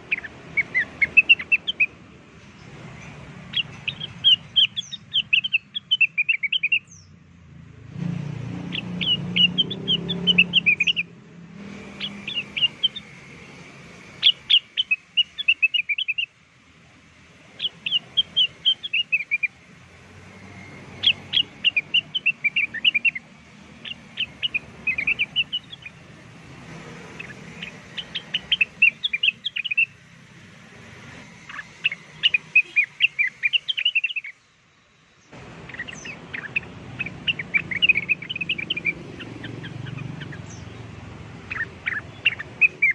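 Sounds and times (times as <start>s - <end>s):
high sharp bird chirps: 0.0s - 2.0s, 2.6s - 7.2s, 8.6s - 16.3s, 17.5s - 19.6s, 20.4s - 26.2s, 26.9s - 30.0s, 30.7s - 42.9s.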